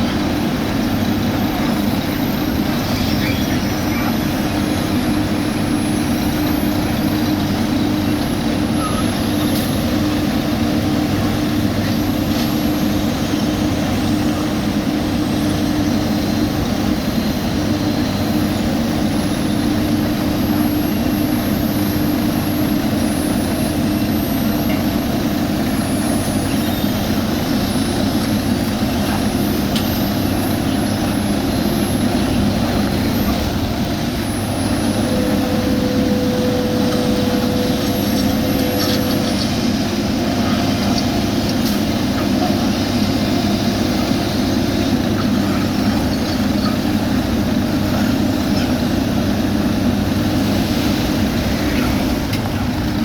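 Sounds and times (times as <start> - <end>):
faint whine: 0.0 - 53.0
paving machinery engine drone: 0.0 - 53.0.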